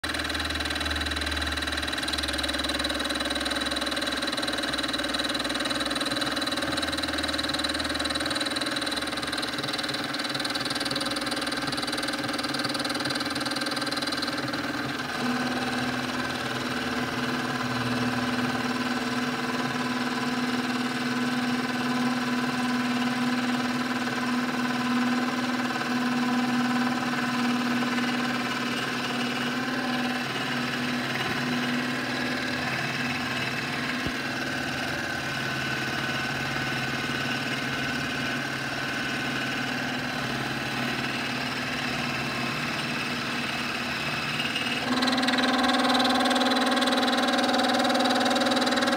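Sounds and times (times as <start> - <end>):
milling machine motor whine: 0.0 - 48.9.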